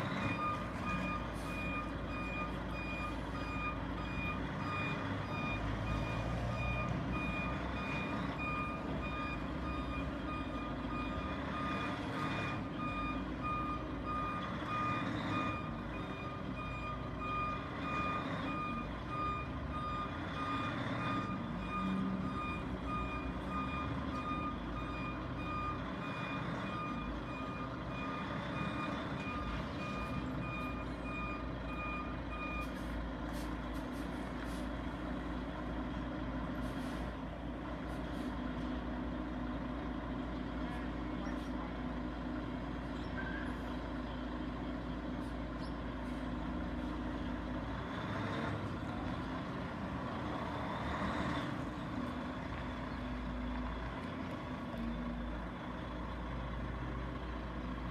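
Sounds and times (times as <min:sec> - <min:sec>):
truck reversing alarm beeping: 0:00.0 - 0:37.3, 0:37.9 - 0:52.3
truck engine running: 0:00.0 - 0:57.9.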